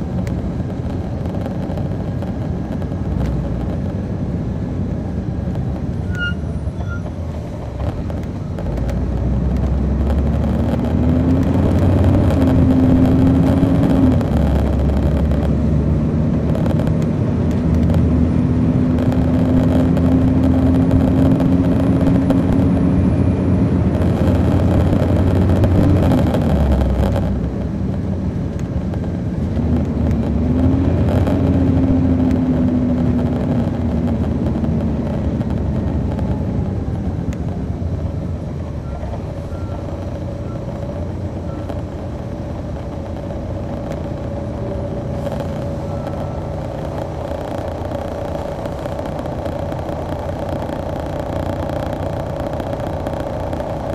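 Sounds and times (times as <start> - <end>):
bus diesel engine: 0.0 - 53.9.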